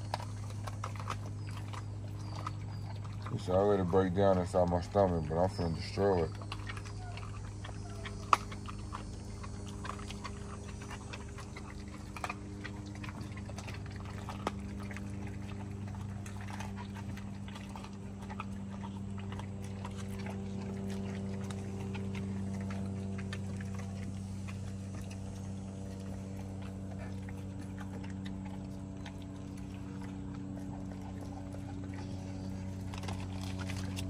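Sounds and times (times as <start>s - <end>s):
dog crunching bones: 0.0s - 34.0s
low hum: 0.0s - 34.0s.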